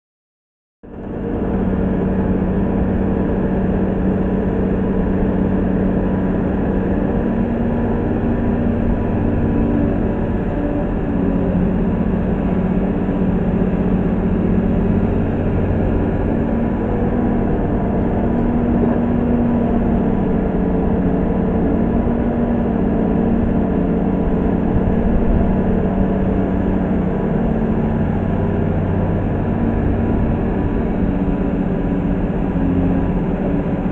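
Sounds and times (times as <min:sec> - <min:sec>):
excavator diesel engine running: 0:00.8 - 0:33.9.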